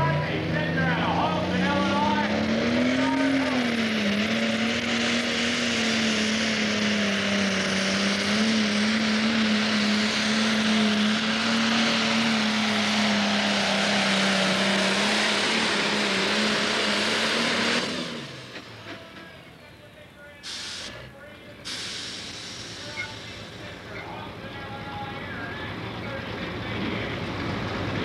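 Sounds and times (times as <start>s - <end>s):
diesel engine at full throttle: 0.0s - 28.0s.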